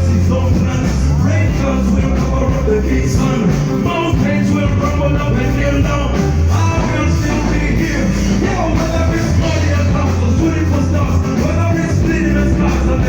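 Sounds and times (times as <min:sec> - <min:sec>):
loud band music: 0:00.0 - 0:13.0
person singing: 0:00.0 - 0:13.0.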